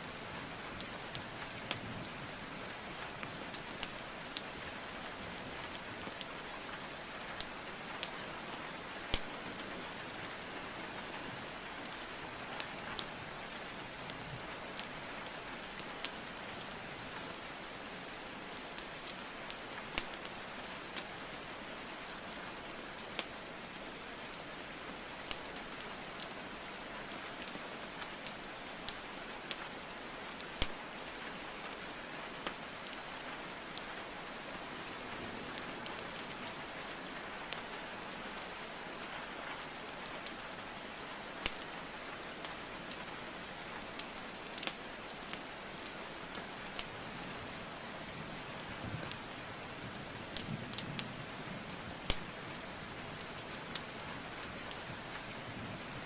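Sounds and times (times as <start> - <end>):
wood fire crackling: 0.0 - 34.0, 41.1 - 47.0, 47.7 - 51.0, 51.6 - 56.0
steady rain: 0.0 - 56.0.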